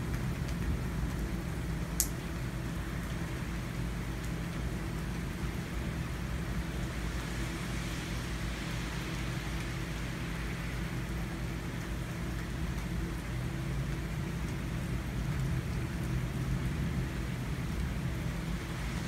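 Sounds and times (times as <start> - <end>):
low steady hum: 0.0 - 19.0
steady rain: 0.0 - 19.0.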